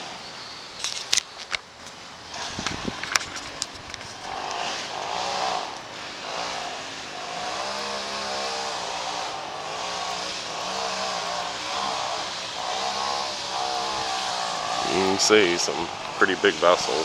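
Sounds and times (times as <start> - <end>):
background hiss: 0.0 - 17.0
engine running steadily: 1.9 - 17.0.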